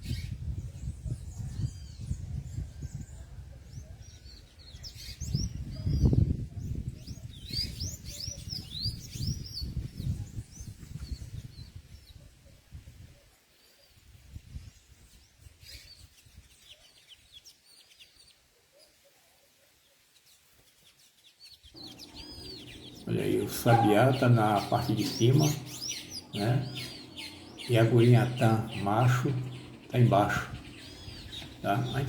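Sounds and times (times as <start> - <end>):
small songbirds chirping: 0.0 - 12.8, 13.4 - 19.0, 19.7 - 32.0.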